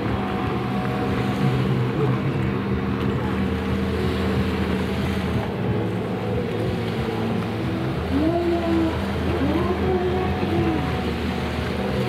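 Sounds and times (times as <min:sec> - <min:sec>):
jet ski engines droning: 0:00.0 - 0:12.0.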